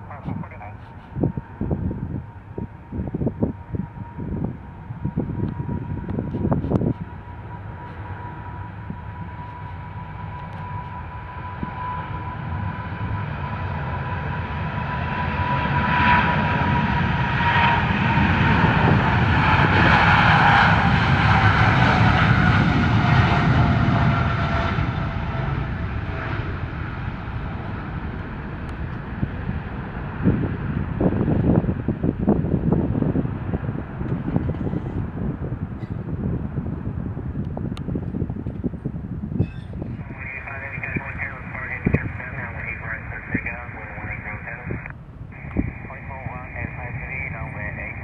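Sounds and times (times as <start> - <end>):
jet airliner passing by: 0.0 - 48.0.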